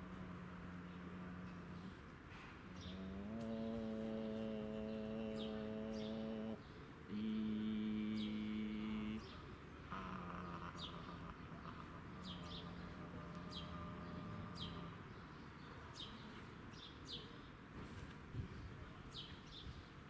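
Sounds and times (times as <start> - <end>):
songbird chirping: 0.0 - 17.7.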